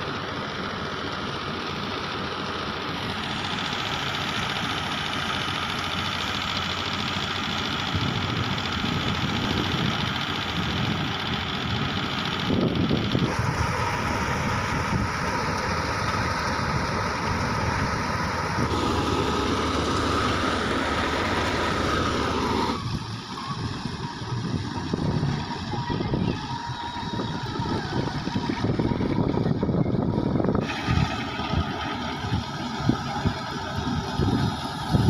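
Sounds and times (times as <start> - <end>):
thresher machine drone with whine: 0.0 - 35.0
tractor engine: 0.0 - 35.0.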